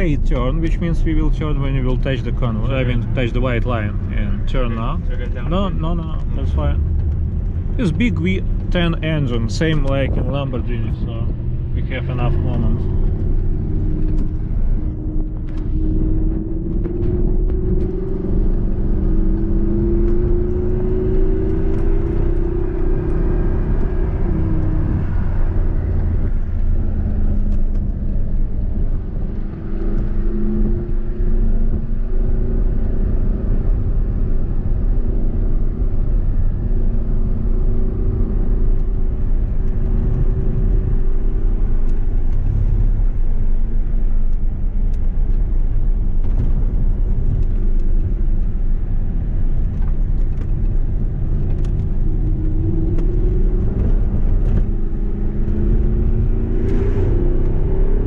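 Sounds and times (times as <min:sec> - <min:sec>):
car engine revving: 0:00.0 - 0:58.0
low rumble: 0:00.0 - 0:58.0.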